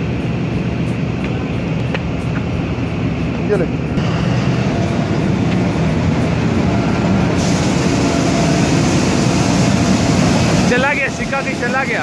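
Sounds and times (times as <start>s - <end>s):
diesel locomotive rumbling past: 2.3s - 12.0s.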